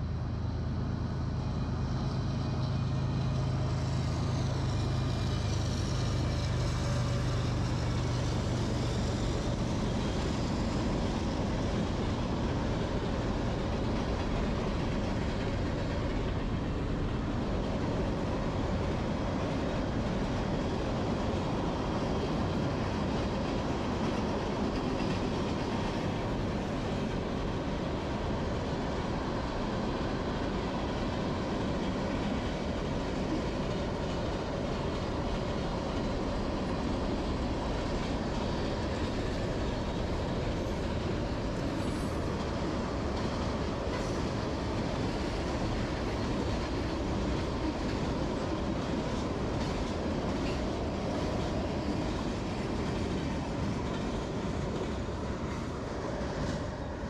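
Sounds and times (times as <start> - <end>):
freight train rumbling over bridge: 0.0 - 57.0.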